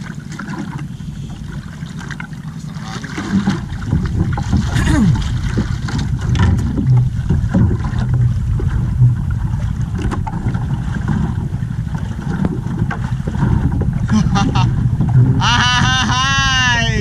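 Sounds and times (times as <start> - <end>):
water lapping at canoe hull: 0.0 - 17.0
wind rumbling on microphone: 0.0 - 17.0.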